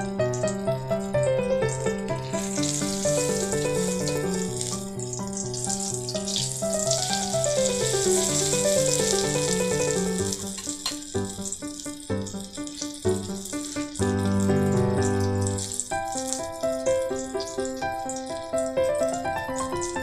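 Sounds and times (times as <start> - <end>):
oil sizzling in a wok: 0.0 - 20.0.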